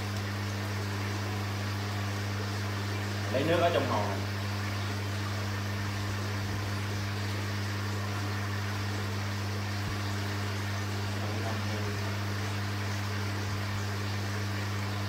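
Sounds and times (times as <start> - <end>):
air pump hum: 0.0 - 15.0.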